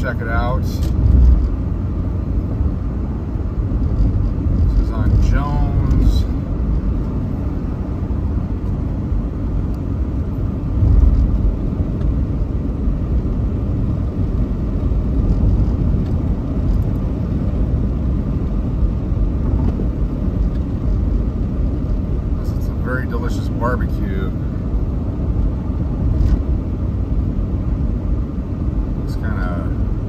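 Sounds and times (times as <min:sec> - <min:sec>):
car cabin road rumble: 0:00.0 - 0:30.0.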